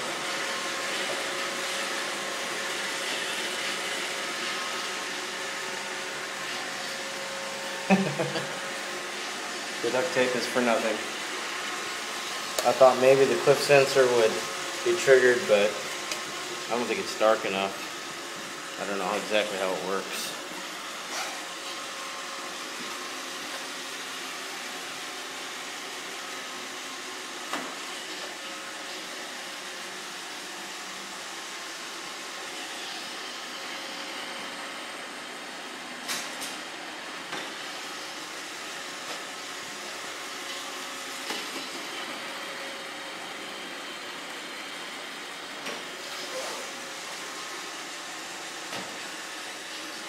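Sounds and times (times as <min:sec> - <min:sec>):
robot vacuum running: 0:00.0 - 0:50.0.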